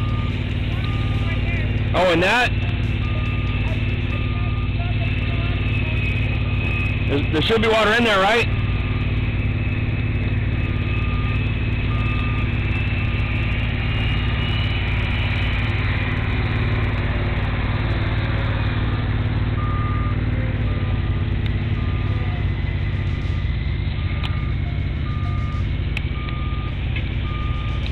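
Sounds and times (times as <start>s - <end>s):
reversing alarm beeping: 0.0s - 17.2s, 17.9s - 27.9s
roller engine running: 0.0s - 27.9s.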